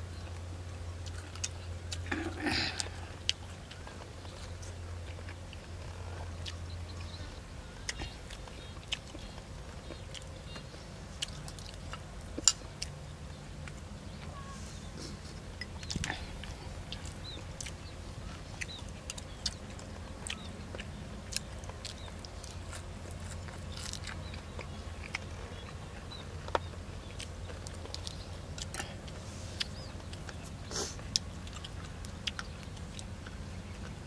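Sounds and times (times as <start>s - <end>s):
man chewing food: 0.0s - 34.0s
steady low rumble: 0.0s - 34.0s.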